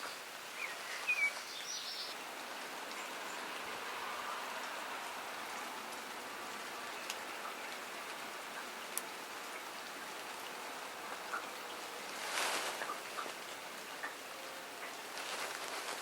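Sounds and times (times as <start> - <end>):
raindrops ticking on surfaces: 0.0 - 16.0
steady rain: 0.0 - 16.0.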